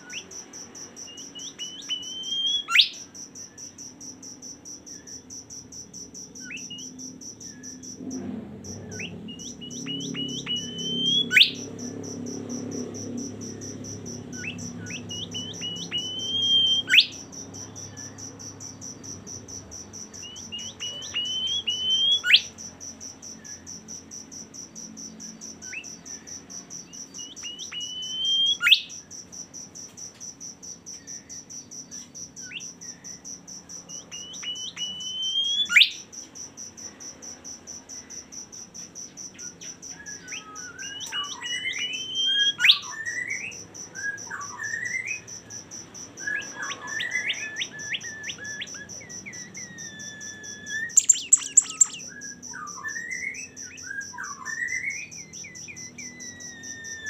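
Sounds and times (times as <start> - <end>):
high insect trill: 0.0 - 57.0
songbird singing: 0.0 - 57.0.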